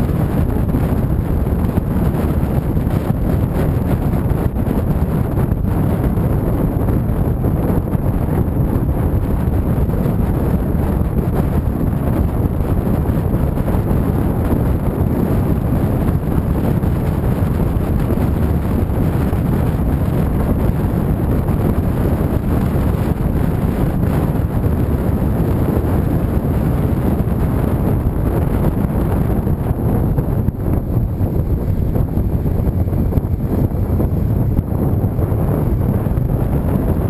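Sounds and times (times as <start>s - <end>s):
motorcycle ride rumble: 0.0s - 37.0s
wind buffeting microphone: 0.0s - 37.0s.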